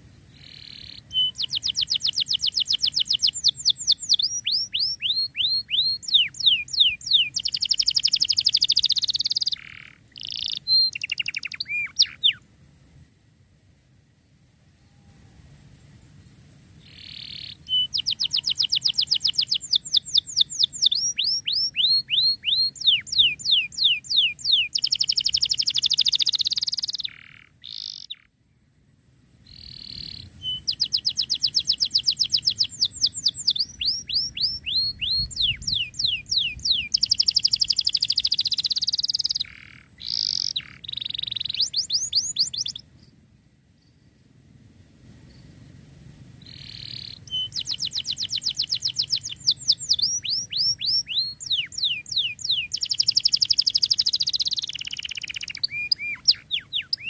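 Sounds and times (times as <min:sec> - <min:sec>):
canary singing trills: 0:00.3 - 0:12.4, 0:16.8 - 0:28.3, 0:29.5 - 0:42.9, 0:46.4 - 0:57.0.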